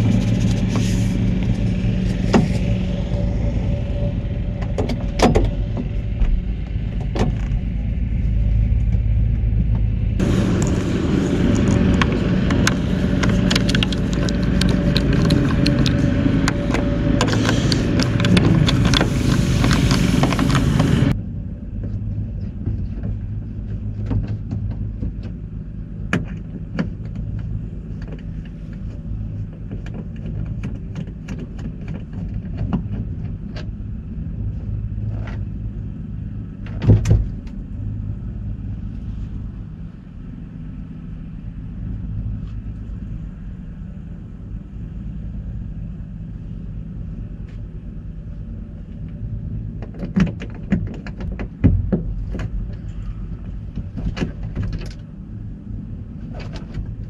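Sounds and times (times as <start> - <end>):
low vehicle rumble: 0.0 - 57.0.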